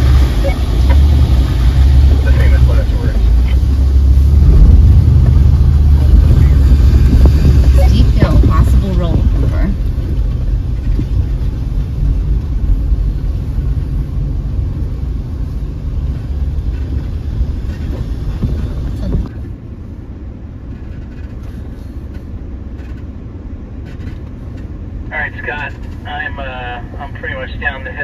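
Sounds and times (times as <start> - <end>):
low rumble of engine and tyres: 0.0 - 28.0.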